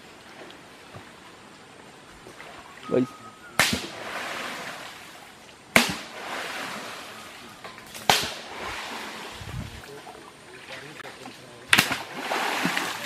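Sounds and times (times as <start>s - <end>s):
splashes in shallow water: 2.2s - 13.0s.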